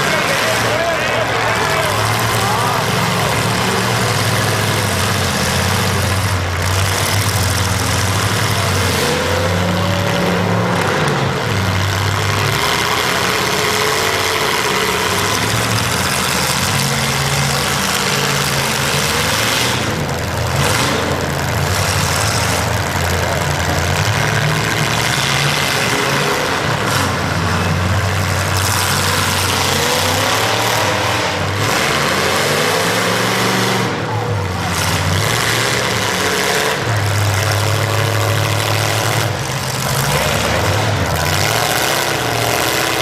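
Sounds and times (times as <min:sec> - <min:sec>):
car engines revving loudly: 0:00.0 - 0:43.0.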